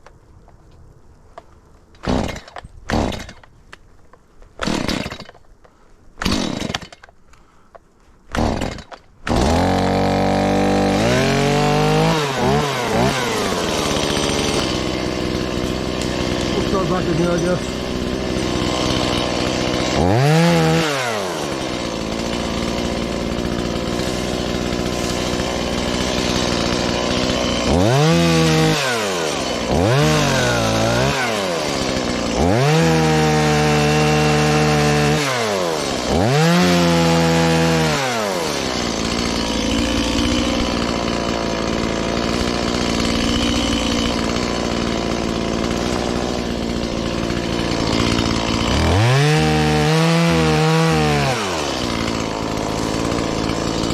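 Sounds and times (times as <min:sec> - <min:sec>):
chainsaw idling and revving: 0:02.0 - 0:03.5, 0:04.6 - 0:05.4, 0:06.2 - 0:07.2, 0:08.3 - 0:53.9.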